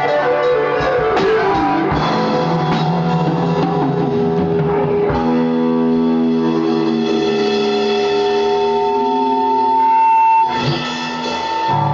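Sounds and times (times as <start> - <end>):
electric guitar chord ringing: 0.0 - 11.9.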